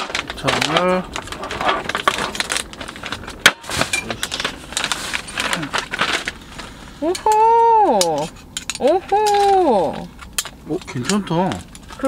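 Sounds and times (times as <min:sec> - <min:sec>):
plastic pack crinkling: 0:00.0 - 0:06.9, 0:08.2 - 0:12.0.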